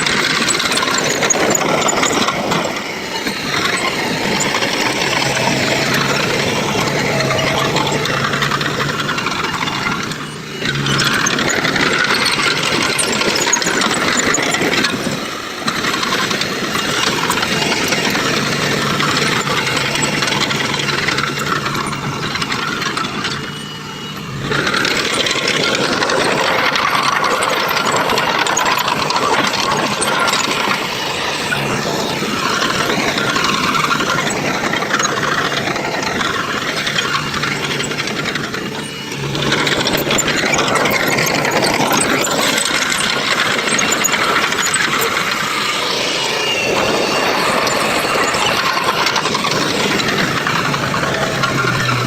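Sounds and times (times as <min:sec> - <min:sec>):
diesel machinery engine drone: 0:00.0 - 0:52.0.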